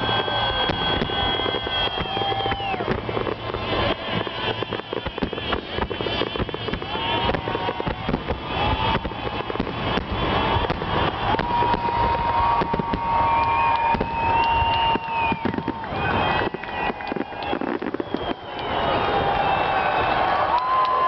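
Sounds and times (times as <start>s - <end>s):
fireworks crackling and popping: 0.0s - 21.0s
warbling firework whistle: 0.0s - 21.0s
whistling firework shells: 0.0s - 21.0s.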